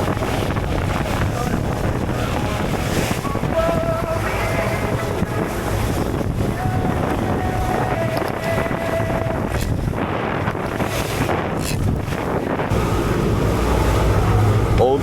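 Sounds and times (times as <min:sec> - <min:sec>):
boat engine running: 0:00.0 - 0:15.0
water against hull: 0:00.0 - 0:15.0
wind on microphone: 0:00.0 - 0:15.0.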